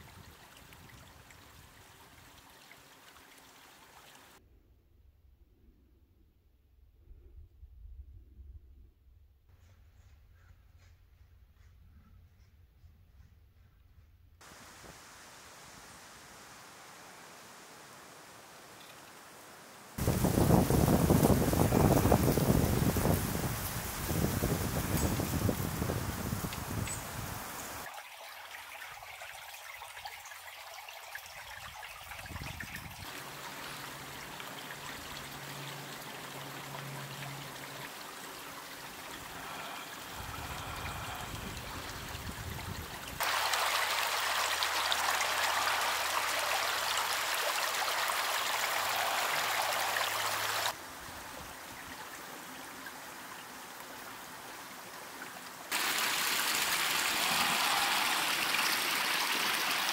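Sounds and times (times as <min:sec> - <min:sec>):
stream trickling: 0:00.0 - 0:04.4, 0:14.4 - 0:59.9.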